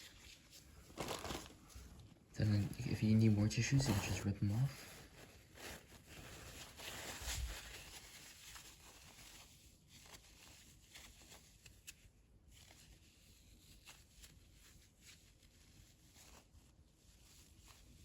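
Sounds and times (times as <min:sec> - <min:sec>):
tissue paper rustling: 0:00.0 - 0:18.0.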